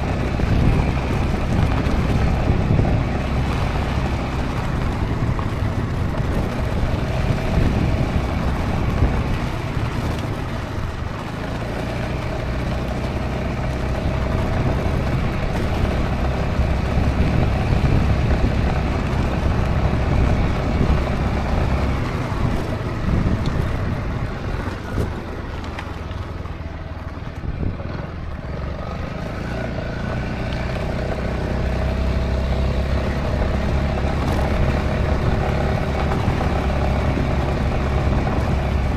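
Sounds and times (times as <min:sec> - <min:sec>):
low rumble of riding noise: 0:00.0 - 0:38.9
scooter engine running: 0:00.0 - 0:38.9.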